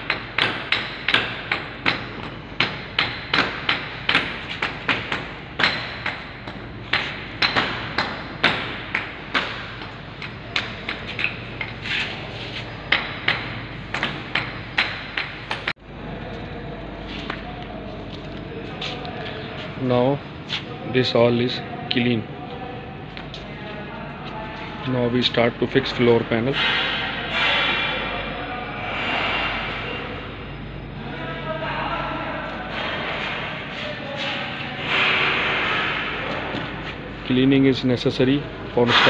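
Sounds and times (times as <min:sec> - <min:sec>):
steady background noise: 0:00.0 - 0:39.0.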